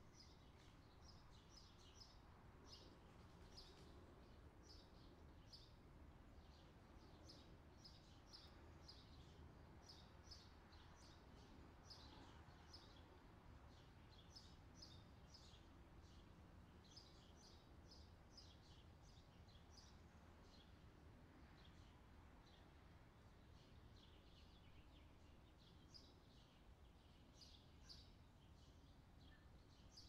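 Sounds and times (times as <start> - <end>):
low rural background hum: 0.0 - 30.0.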